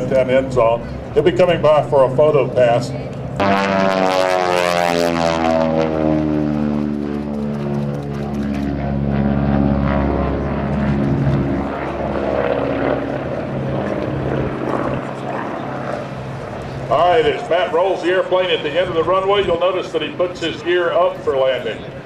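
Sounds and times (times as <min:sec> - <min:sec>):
propeller plane flying past: 0:00.0 - 0:22.0.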